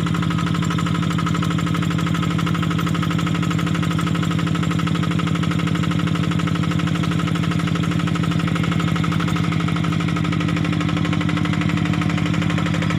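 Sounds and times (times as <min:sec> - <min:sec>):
tractor diesel engine chugging: 0:00.0 - 0:12.9.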